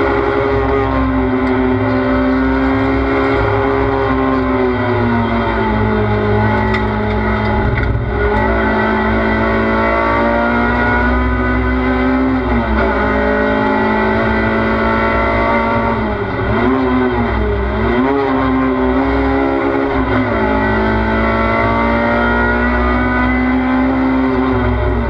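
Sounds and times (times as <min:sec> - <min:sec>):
low road rumble: 0:00.0 - 0:25.0
race car engine running hard: 0:00.0 - 0:25.0.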